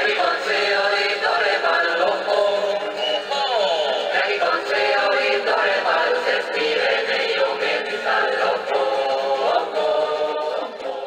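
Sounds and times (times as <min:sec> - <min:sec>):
choir singing from a record: 0:00.0 - 0:11.0.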